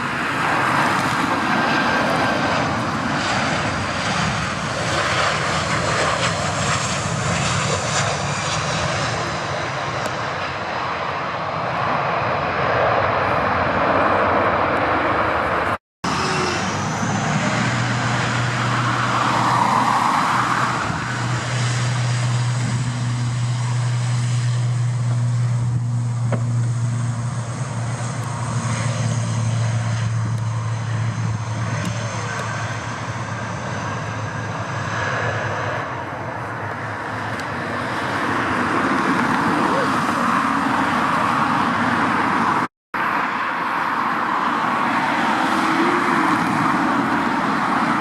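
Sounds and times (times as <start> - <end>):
high turbine whine: 0.0 - 48.0
propeller drone: 0.0 - 48.0.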